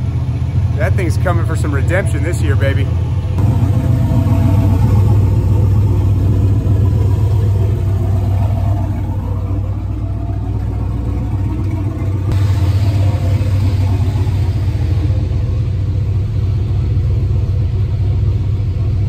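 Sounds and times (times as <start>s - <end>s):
engine idling with deep rumble: 0.0s - 19.0s.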